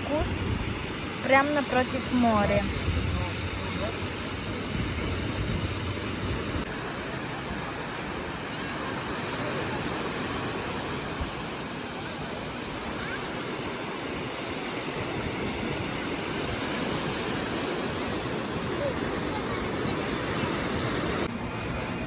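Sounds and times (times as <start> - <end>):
sea surf washing onto sand: 0.0 - 22.0.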